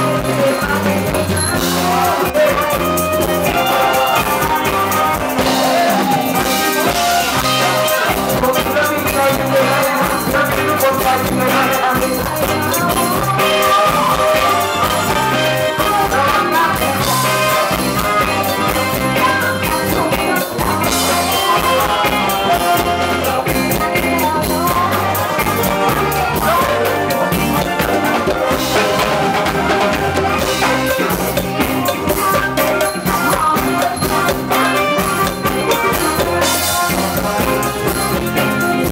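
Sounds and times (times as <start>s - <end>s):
electronic keyboard: 0.0s - 38.9s
live band dance music: 0.0s - 38.9s.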